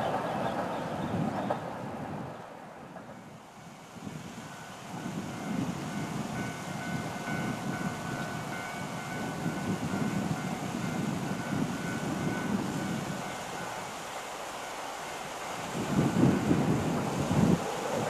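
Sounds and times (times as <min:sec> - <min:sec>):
distant diesel train rumble: 0:00.0 - 0:18.0.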